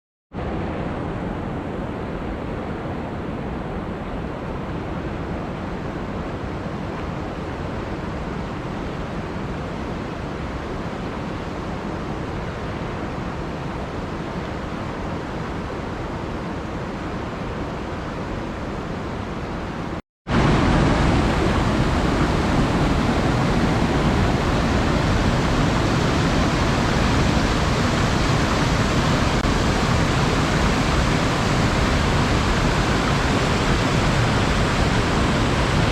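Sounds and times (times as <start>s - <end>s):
water rushing: 0.4s - 35.9s.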